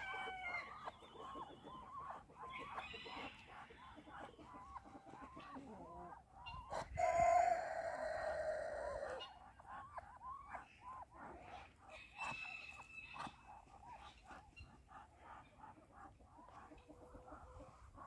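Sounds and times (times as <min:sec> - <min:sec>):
ducks chirping softly: 0:00.0 - 0:18.0.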